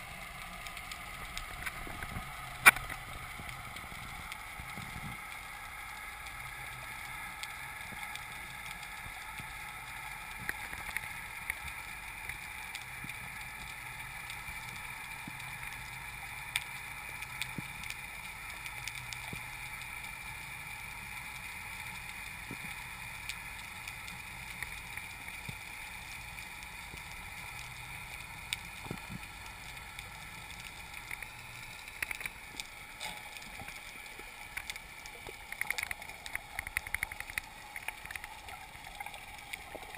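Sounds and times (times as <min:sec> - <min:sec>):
faint clicks: 0:00.2 - 0:39.9.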